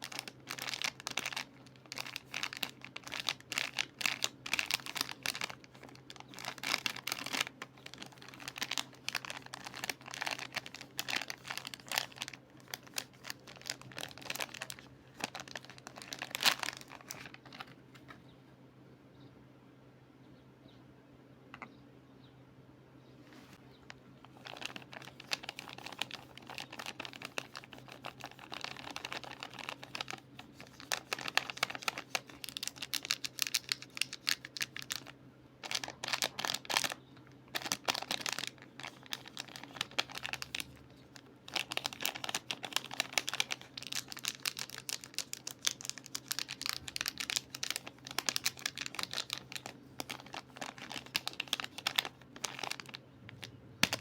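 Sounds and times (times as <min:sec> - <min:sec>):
packaging crinkling and rustling: 0:00.0 - 0:18.2, 0:23.9 - 0:54.0.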